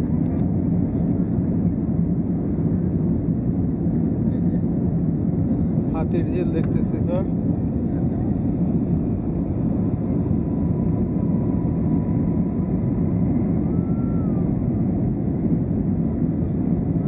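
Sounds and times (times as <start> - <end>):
airliner engine and rushing air: 0.0 - 17.0.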